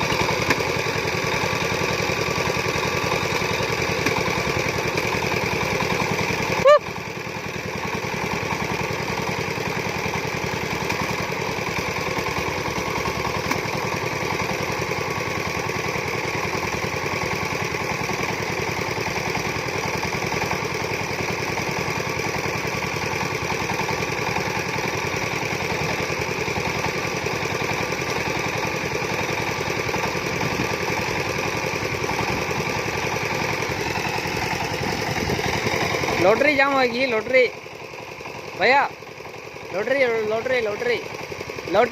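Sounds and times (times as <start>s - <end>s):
diesel engine knocking steadily: 0.0s - 41.9s.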